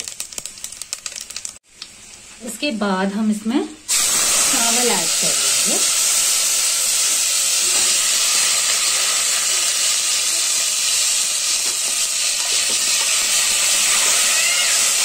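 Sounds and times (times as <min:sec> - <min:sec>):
seeds sizzling in hot oil: 0:00.0 - 0:02.3, 0:03.9 - 0:15.0.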